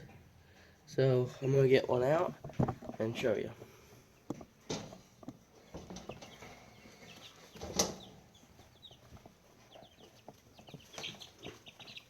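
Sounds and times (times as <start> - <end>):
baby chicks peeping: 0.0 - 12.0.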